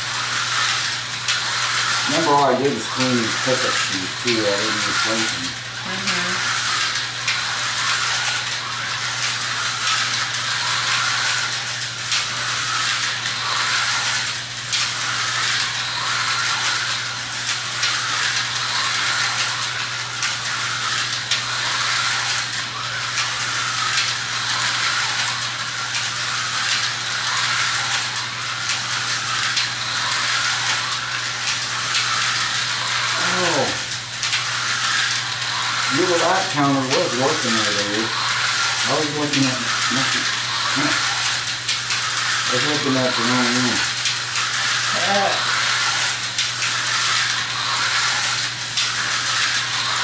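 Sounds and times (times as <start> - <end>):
slot cars rattling buzz: 0.0 - 50.0.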